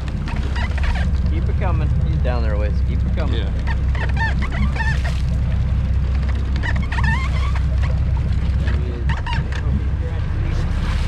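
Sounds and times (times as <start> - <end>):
seabirds calling: 0.0 - 9.7
boat engine rumbling: 0.0 - 11.0.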